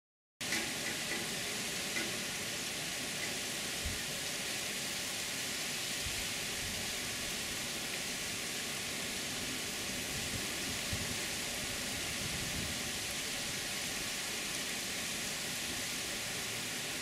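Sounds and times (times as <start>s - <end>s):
heavy rain downpour: 0.4s - 17.0s.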